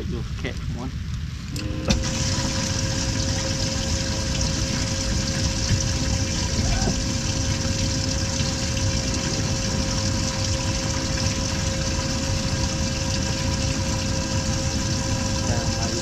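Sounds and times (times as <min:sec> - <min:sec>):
boat motor running: 0:01.6 - 0:16.0.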